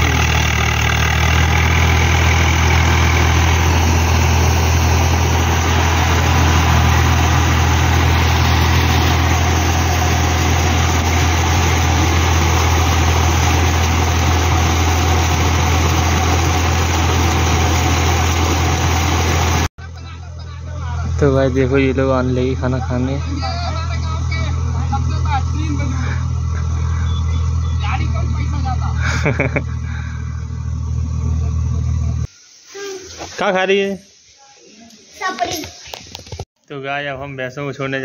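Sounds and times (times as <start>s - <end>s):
tractor diesel engine under load: 0.0s - 19.7s, 21.0s - 32.3s.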